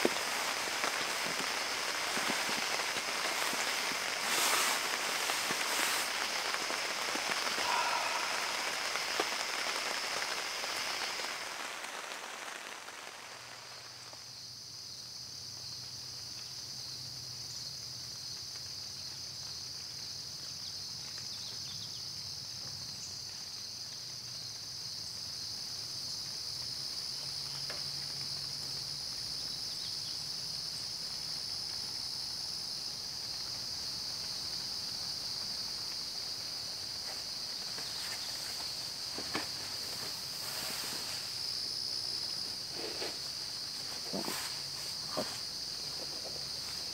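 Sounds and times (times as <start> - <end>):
high-pitched insect chorus: 0.0 - 46.9
steady rain: 0.0 - 46.9.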